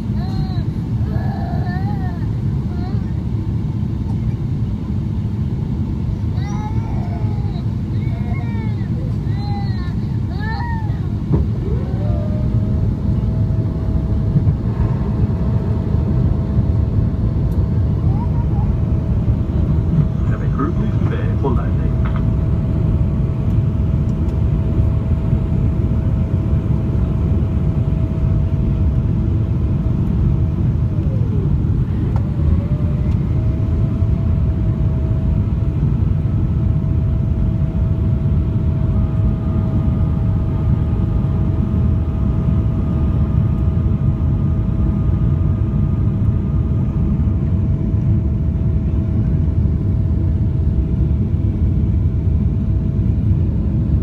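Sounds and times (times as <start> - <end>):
airplane cabin rumble: 0.0 - 54.0
thin engine whine: 5.4 - 54.0
higher whine: 7.8 - 54.0.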